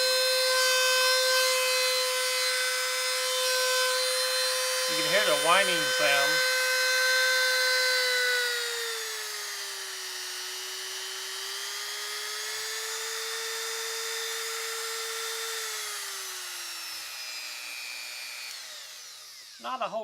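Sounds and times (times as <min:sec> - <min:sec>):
rotary tool high whine: 0:00.0 - 0:20.0.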